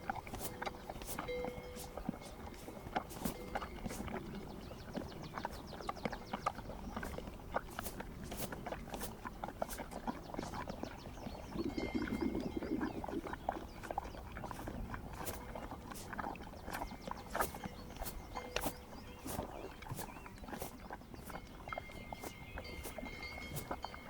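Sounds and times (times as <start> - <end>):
hoof knocks and clicks: 0.0 - 24.0.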